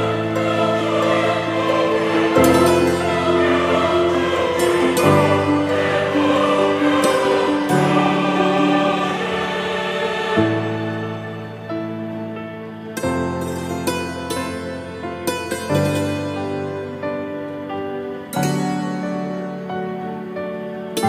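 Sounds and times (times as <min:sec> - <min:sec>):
background music of held chords: 0:00.0 - 0:21.0.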